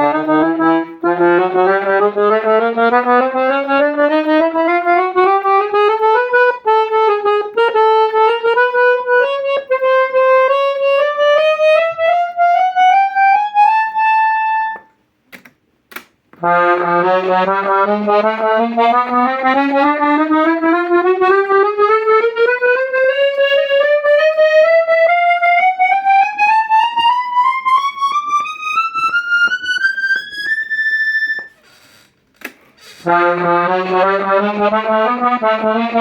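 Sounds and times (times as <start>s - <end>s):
accordion playing rising scale: 0.0s - 14.9s, 16.4s - 31.6s, 33.0s - 36.0s
accordion low held chord: 0.0s - 15.0s, 16.4s - 31.5s, 33.0s - 36.0s.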